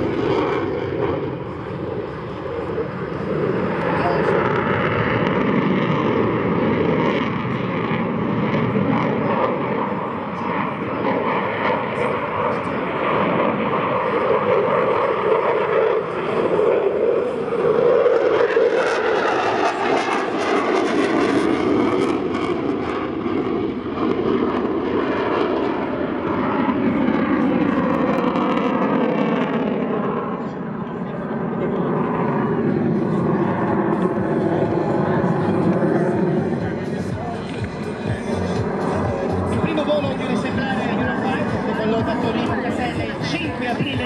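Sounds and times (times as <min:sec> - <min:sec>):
jet engines roaring: 0:00.0 - 0:44.0.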